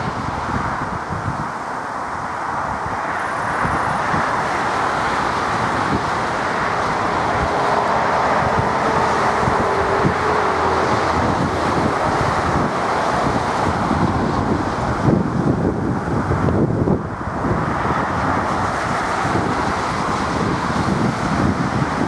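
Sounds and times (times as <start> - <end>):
jet engines roaring: 0.0 - 22.0
wind buffeting microphone: 0.0 - 22.0.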